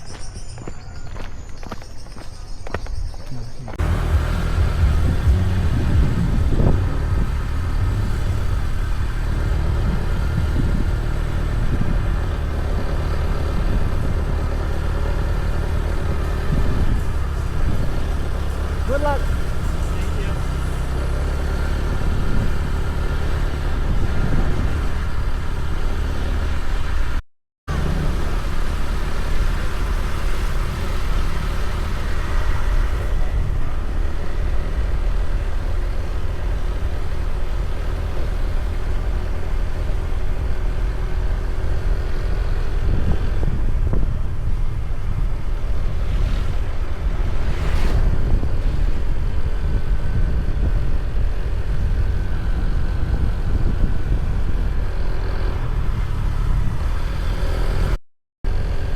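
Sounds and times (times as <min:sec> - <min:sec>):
engine and road rumble: 0:00.0 - 0:58.9
wind buffeting microphone: 0:03.8 - 0:27.2, 0:29.0 - 0:57.9.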